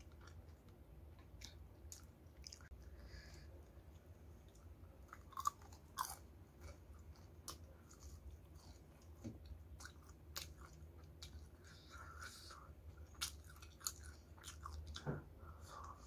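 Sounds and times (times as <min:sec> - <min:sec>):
chewing crispy fried chicken: 0:00.0 - 0:16.0.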